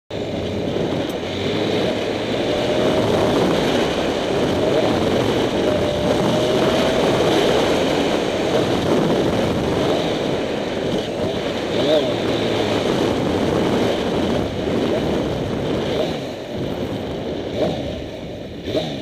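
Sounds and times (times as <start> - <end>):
motorcycle engine running: 0.1 - 19.0
wind noise on microphone: 0.1 - 19.0.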